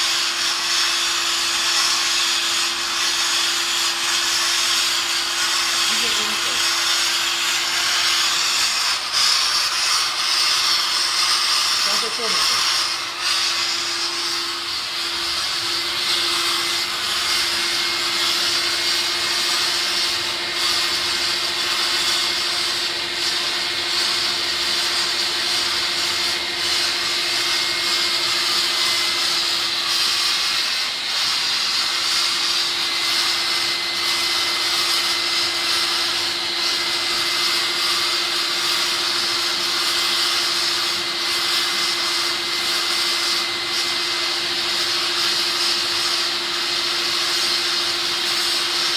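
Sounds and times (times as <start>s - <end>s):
sandblasting hiss: 0.0s - 48.9s.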